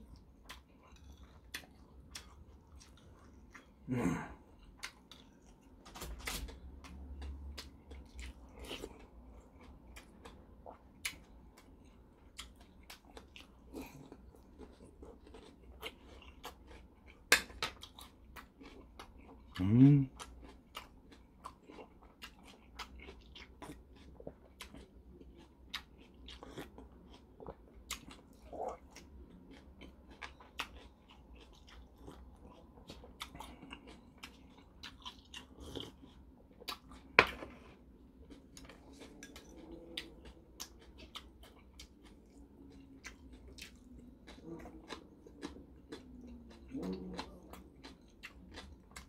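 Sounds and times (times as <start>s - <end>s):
person chewing with wet mouth clicks: 0.0s - 3.8s, 4.6s - 49.0s.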